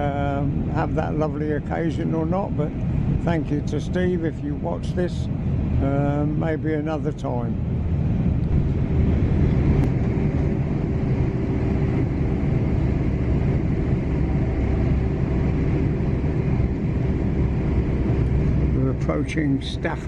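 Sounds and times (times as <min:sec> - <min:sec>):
faint constant hum: 0:00.0 - 0:20.0.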